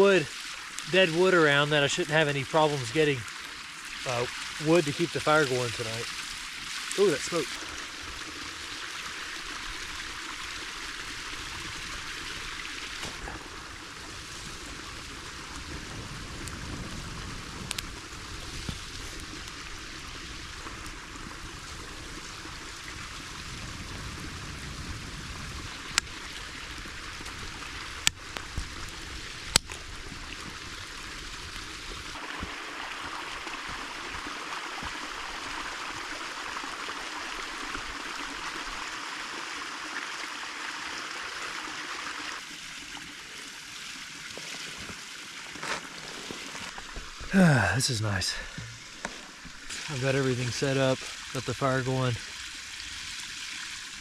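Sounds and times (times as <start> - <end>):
creek running: 0.0 - 54.0.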